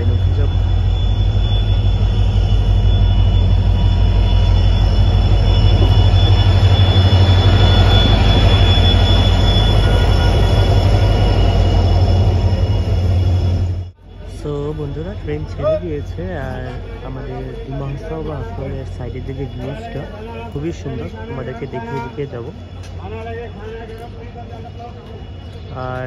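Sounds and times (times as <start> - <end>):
locomotive engine droning: 0.0 - 26.0
train brakes squealing: 0.0 - 26.0.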